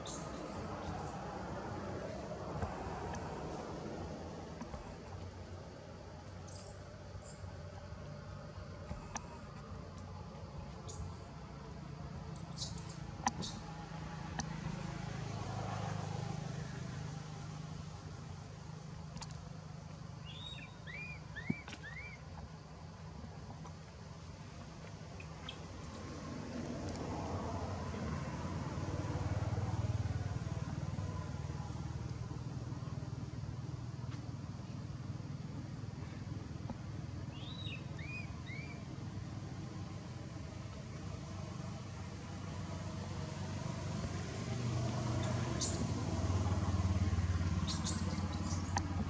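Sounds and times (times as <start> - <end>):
low engine-like hum: 0.0 - 49.0.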